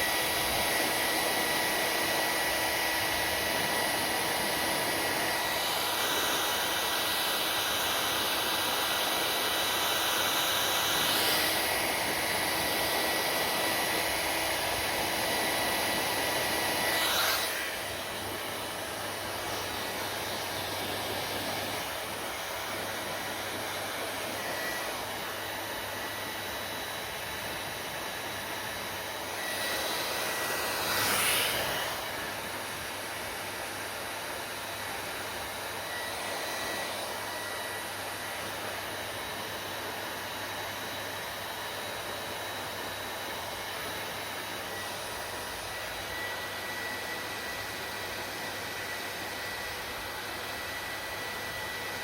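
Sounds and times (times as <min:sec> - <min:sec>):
hair dryer running: 0:00.0 - 0:52.0.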